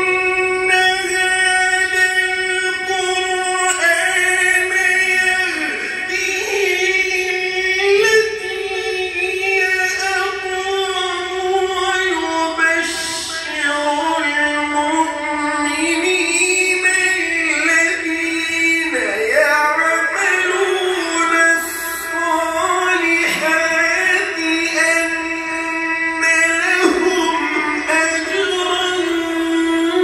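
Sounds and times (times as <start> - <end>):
man reciting melodically: 0.0 - 30.0.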